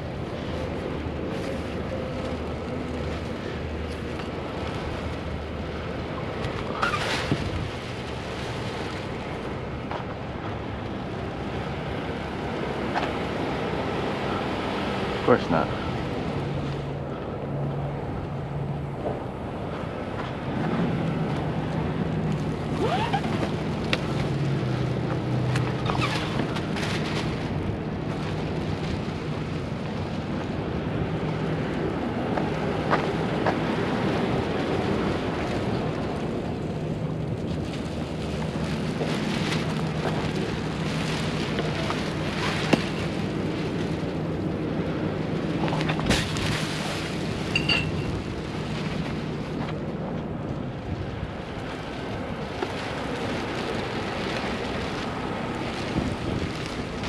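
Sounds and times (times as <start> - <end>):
low engine hum: 0.0 - 57.0
wind blowing across microphone: 0.0 - 57.0.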